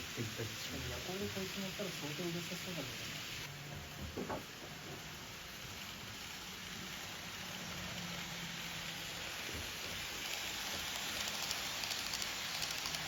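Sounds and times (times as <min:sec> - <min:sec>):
model train wheels and motors whirring: 0:00.0 - 0:13.0.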